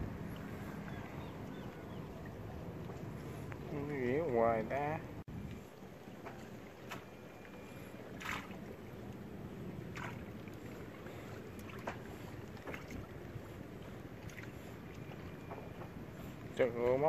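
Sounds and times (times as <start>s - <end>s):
light wind: 0.0s - 17.0s
river water: 0.0s - 17.0s.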